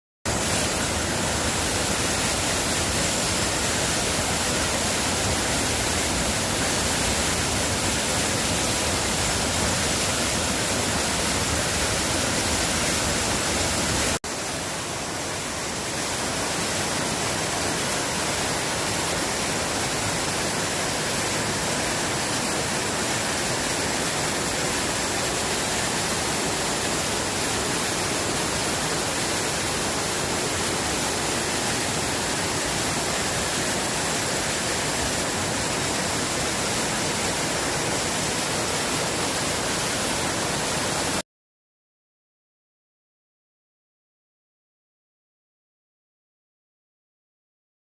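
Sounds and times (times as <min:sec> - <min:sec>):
waterfall rushing: 0:00.3 - 0:41.2.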